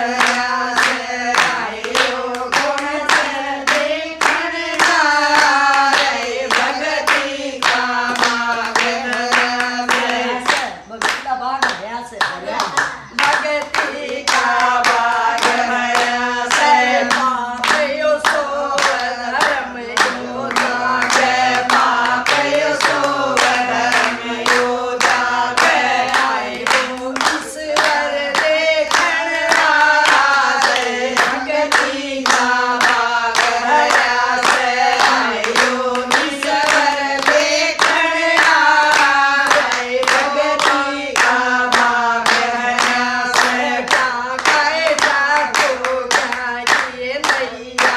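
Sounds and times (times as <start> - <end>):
hands clapping in rhythm: 0.0 - 47.9
women singing devotional song: 0.0 - 47.9.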